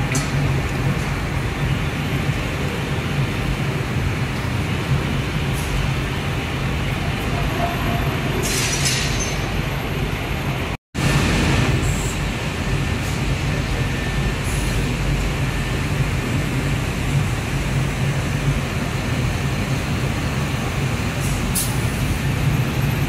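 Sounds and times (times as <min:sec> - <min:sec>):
factory machinery hum: 0:00.0 - 0:23.0.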